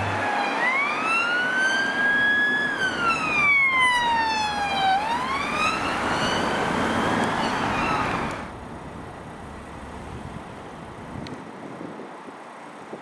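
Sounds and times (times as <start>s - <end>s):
emergency siren wailing: 0.0s - 11.1s.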